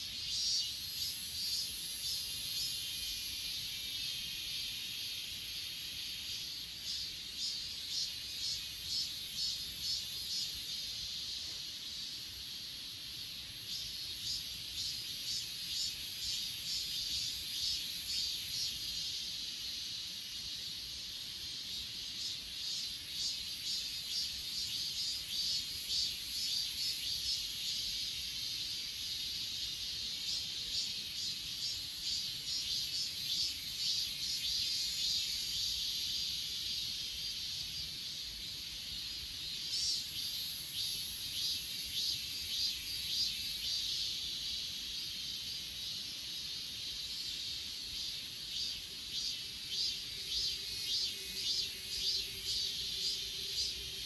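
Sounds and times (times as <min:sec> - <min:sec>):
cricket chirping pulses: 0:00.0 - 0:54.0
insects trilling: 0:00.0 - 0:54.0.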